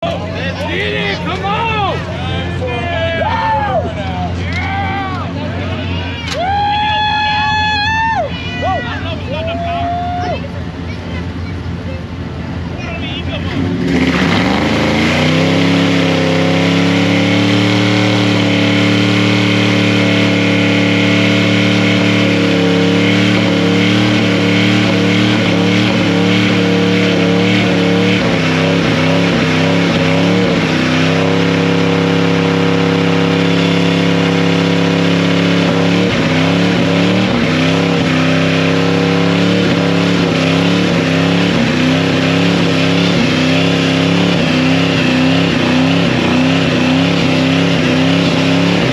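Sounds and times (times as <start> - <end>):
truck engine at high revs: 0.0 - 48.9.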